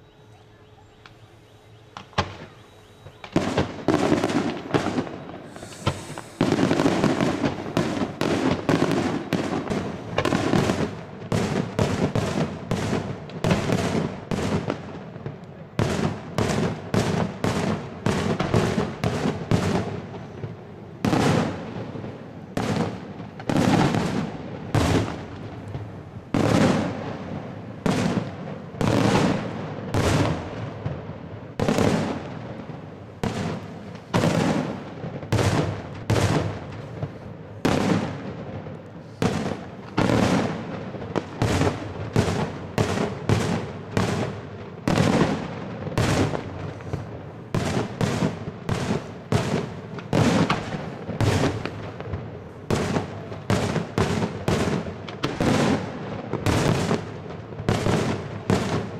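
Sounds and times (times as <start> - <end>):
fireworks bangs with rumbling tail: 2.0 - 58.9.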